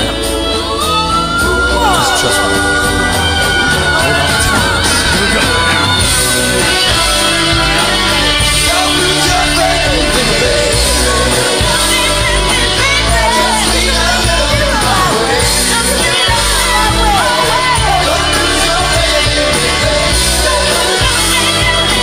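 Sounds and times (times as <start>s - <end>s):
karaoke backing track: 0.0s - 22.0s
person singing: 0.0s - 22.0s.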